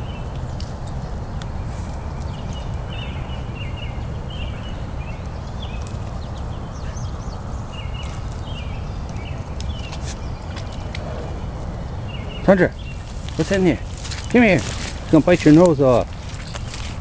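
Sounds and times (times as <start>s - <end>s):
low wind rumble on microphone: 0.0s - 17.0s
high chirping calls: 1.6s - 16.9s.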